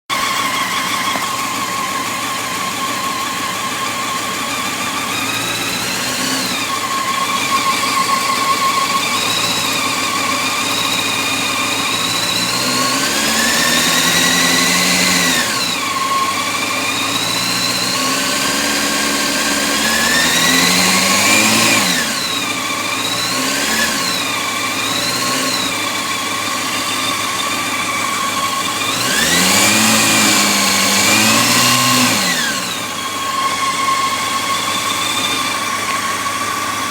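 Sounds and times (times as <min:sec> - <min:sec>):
motorcycle engine idling and revving: 0:00.0 - 0:36.9
engine ticking: 0:00.1 - 0:36.9.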